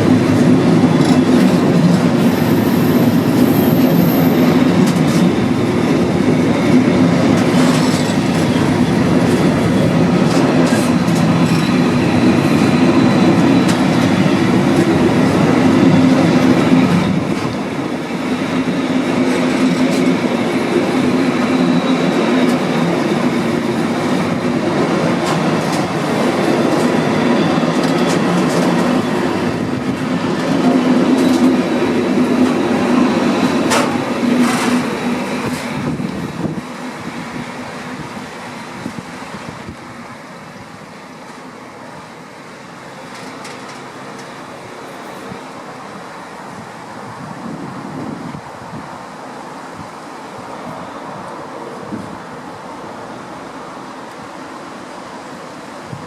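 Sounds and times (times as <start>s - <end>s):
train running past: 0.0s - 56.0s.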